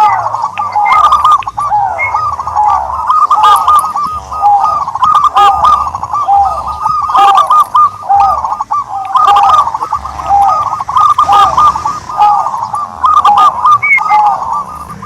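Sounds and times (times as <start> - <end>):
turtle doves cooing: 0.0 - 15.0.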